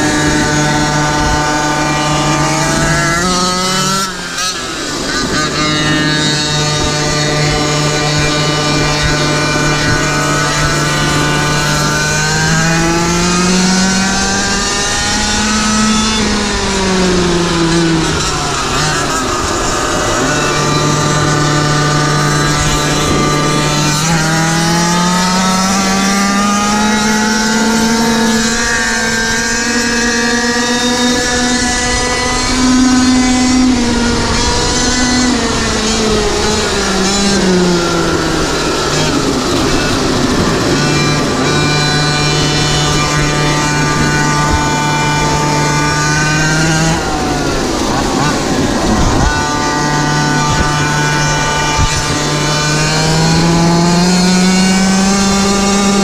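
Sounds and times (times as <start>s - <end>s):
small engine running hard: 0.0s - 56.0s.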